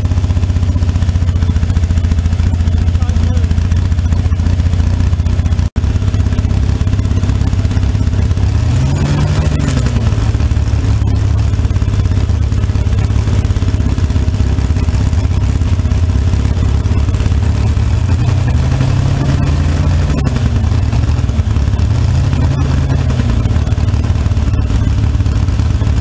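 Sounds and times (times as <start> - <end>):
dragster engine idling: 0.0 - 26.0.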